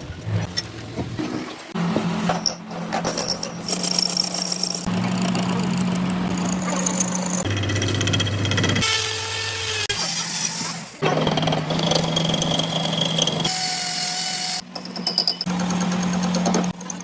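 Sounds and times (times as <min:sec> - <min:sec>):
workshop machinery noise: 0:00.4 - 0:17.0.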